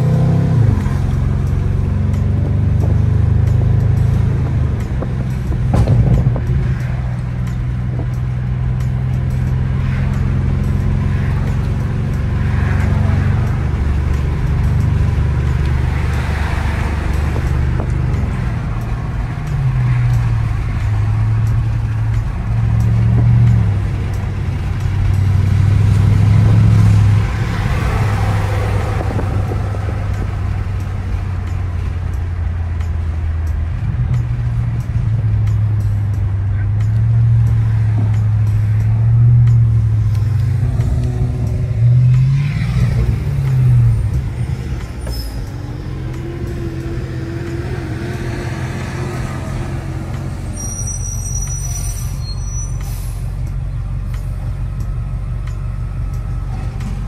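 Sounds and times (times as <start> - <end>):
car engine drone: 0.0 - 57.0
tyre and road noise: 0.0 - 57.0.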